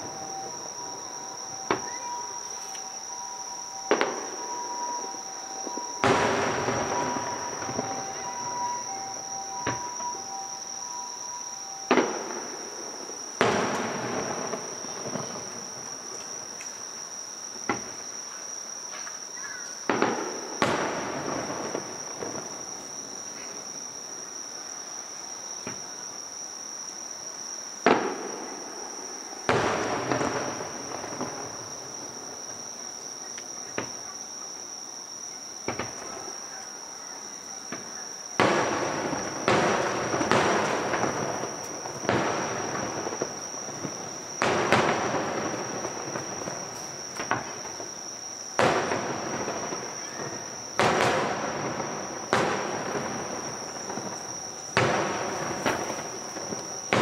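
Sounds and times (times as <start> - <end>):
fireworks booming: 0.0 - 16.6, 17.6 - 18.1, 19.8 - 23.8, 27.8 - 32.7, 35.6 - 36.4, 37.7 - 57.0
crickets chirring: 0.0 - 57.0.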